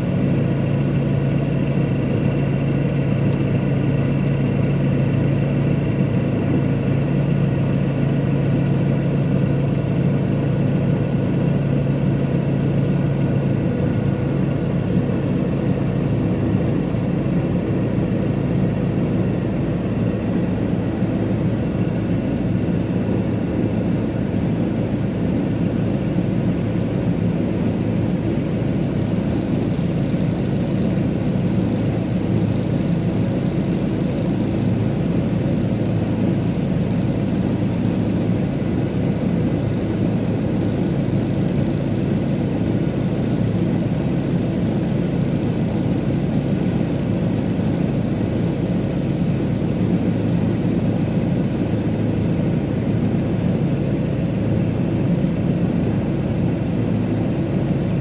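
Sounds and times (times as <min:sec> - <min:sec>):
diesel engine running at low revs: 0:00.0 - 0:58.0.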